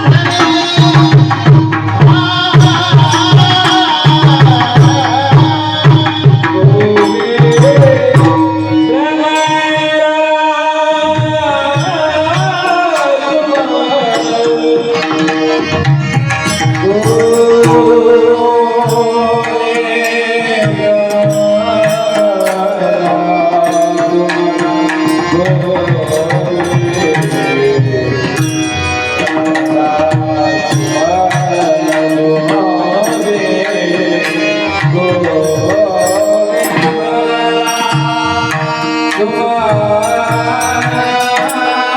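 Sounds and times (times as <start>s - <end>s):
person singing devotional song: 0.0s - 41.9s
tabla: 0.0s - 41.9s.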